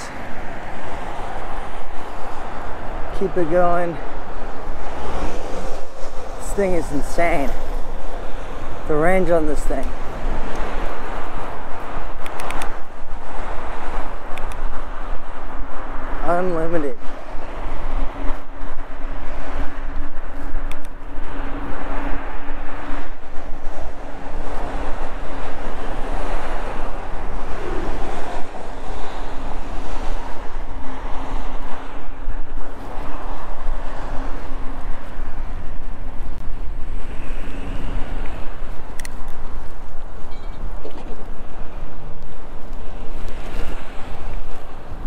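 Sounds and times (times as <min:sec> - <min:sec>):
bike tyre and ride noise: 0:00.0 - 0:45.0
wind buffeting microphone: 0:00.0 - 0:45.0.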